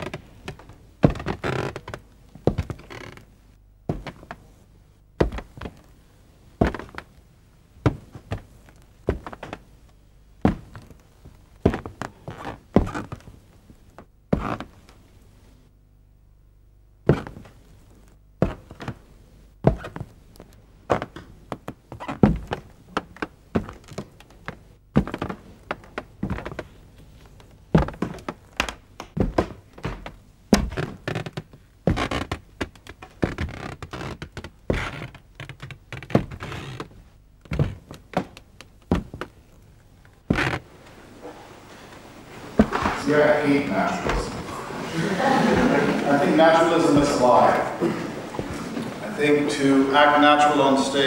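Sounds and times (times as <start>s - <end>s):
faint low hum: 0.0s - 51.0s.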